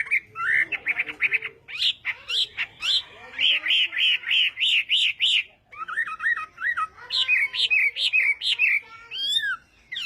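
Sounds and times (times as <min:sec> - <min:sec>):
bird singing whistled notes: 0:00.0 - 0:10.0.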